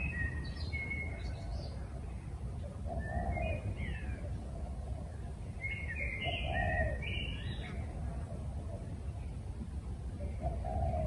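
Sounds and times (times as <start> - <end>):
birds chirping: 0.0 - 11.0
low background rumble: 0.0 - 11.0.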